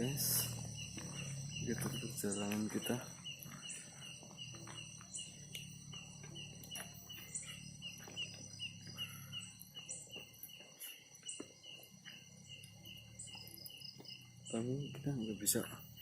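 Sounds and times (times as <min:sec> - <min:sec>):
cricket-like chirp: 0:00.0 - 0:16.0
high-pitched insect drone: 0:00.0 - 0:16.0.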